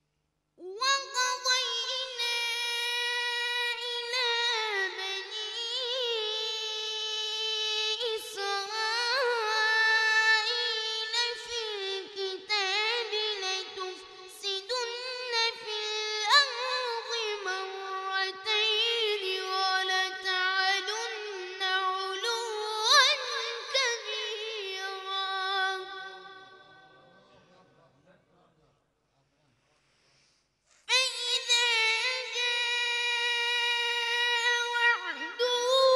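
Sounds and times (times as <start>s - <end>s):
person reciting melodically: 0.6s - 28.4s, 30.9s - 35.9s.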